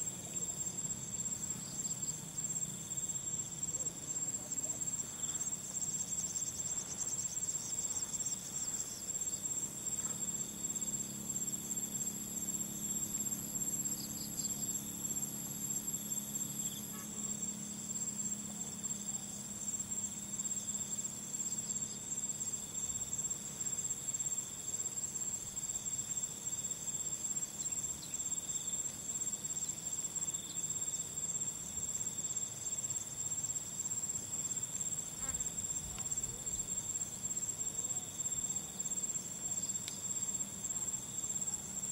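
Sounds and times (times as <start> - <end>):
insects trilling: 0.0 - 41.9
lower insect trill: 0.0 - 41.9.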